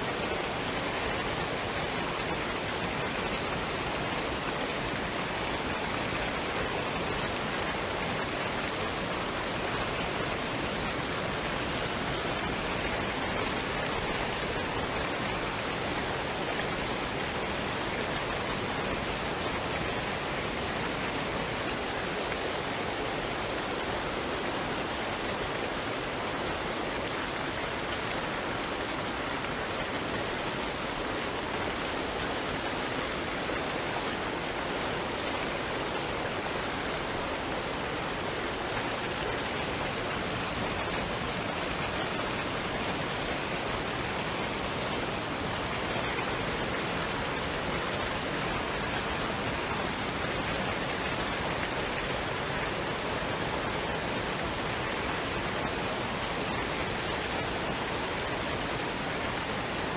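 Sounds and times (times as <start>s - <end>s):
waterfall and stream rushing: 0.0s - 59.9s.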